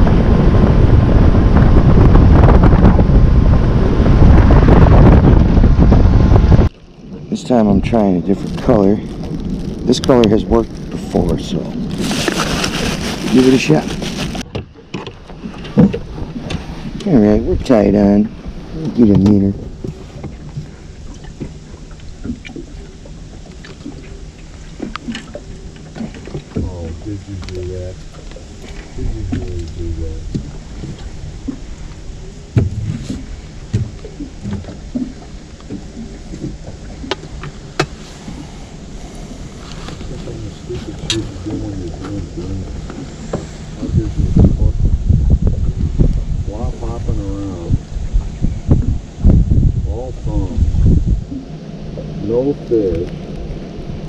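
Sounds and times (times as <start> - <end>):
motorboat running: 0.0 - 54.0
steady low hum: 0.0 - 54.0
wind buffeting microphone: 0.0 - 54.0.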